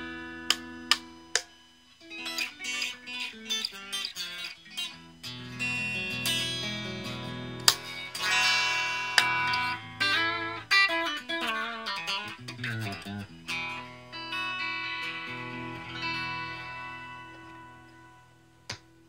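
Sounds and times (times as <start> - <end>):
electric guitar with vibrato: 0.0 - 19.0.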